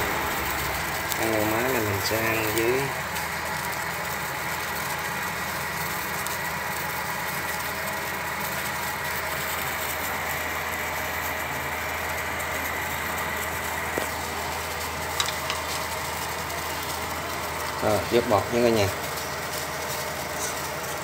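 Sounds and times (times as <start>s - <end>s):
pot of water boiling: 0.0s - 21.0s.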